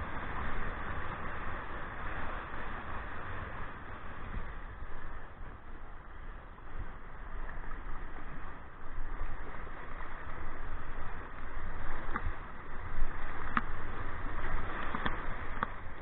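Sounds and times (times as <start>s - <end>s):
surf rushing and splashing: 0.0s - 16.0s.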